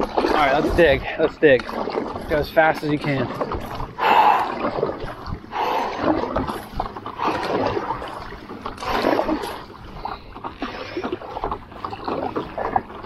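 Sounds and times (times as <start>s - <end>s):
paddle strokes through choppy water: 0.0s - 13.0s
water splashing off board: 0.0s - 13.0s.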